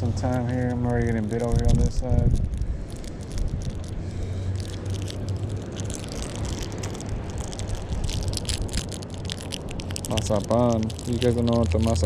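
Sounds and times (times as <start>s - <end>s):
crackles and rustles: 0.0s - 12.0s
wind buffeting microphone: 0.0s - 12.0s.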